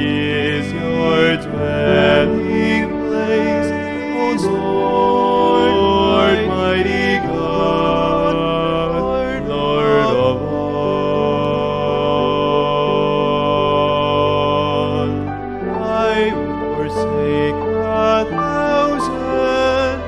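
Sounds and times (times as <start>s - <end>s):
man singing a hymn: 0.0s - 20.0s
sustained accompaniment: 0.0s - 20.0s.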